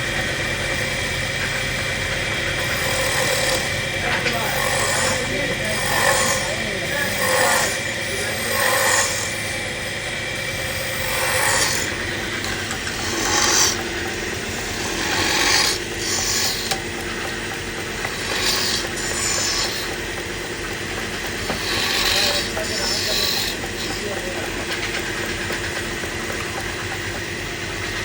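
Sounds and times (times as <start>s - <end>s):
cutting tool rasping on wood: 0.0s - 28.0s
lathe machine noise: 0.0s - 28.0s.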